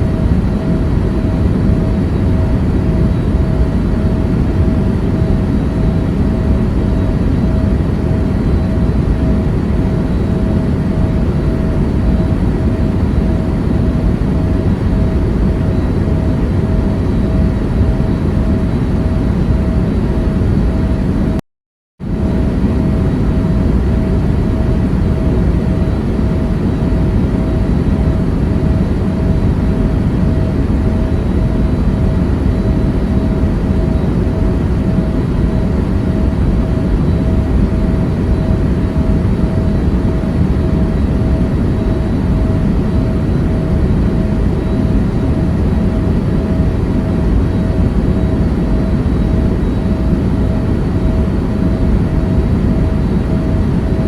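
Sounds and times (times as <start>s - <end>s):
airliner engine roar: 0.0s - 21.4s, 22.0s - 54.0s
faint pulsing hum: 0.0s - 21.4s, 22.1s - 54.0s.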